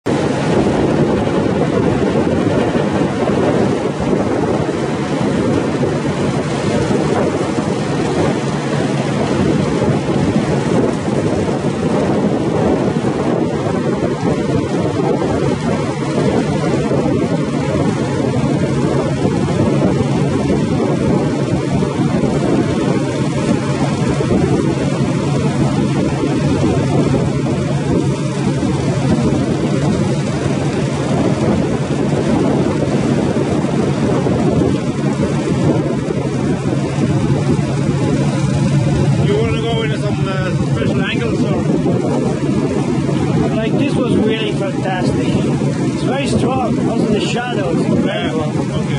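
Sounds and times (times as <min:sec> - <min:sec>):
ship engine noise: 0:00.0 - 0:48.9.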